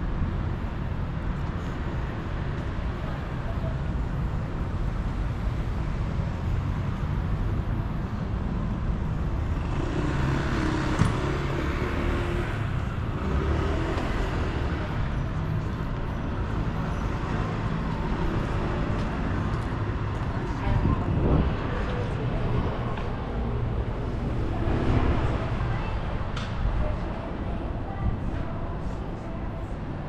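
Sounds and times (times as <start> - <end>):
passing cars rumbling: 0.0 - 30.0.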